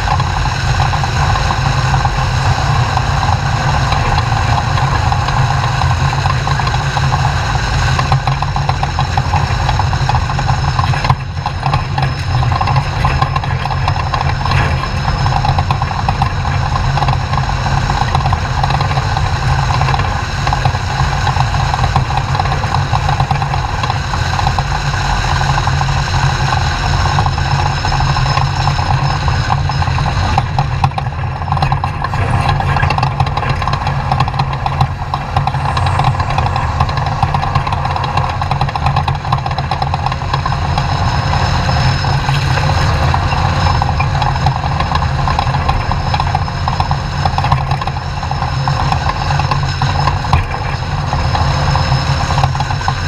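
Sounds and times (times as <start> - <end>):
rough road noise: 0.0 - 53.0
truck engine running hard: 0.0 - 53.0.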